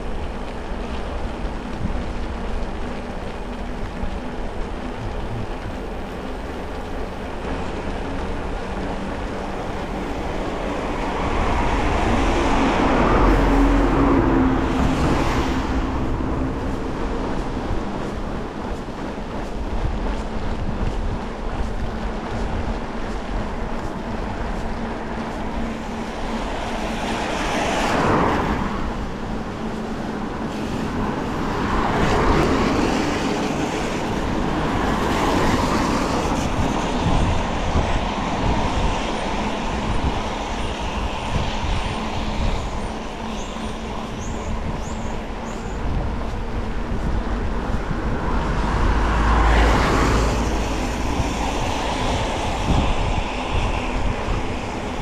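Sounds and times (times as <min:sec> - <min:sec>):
cars passing on wet road: 0:00.0 - 0:55.0
wind rumble on microphone: 0:00.0 - 0:55.0.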